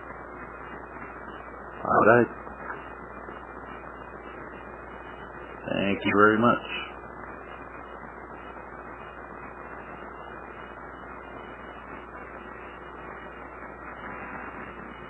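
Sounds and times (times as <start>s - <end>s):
low mains hum: 0.0s - 15.0s
steady hiss: 0.0s - 15.0s.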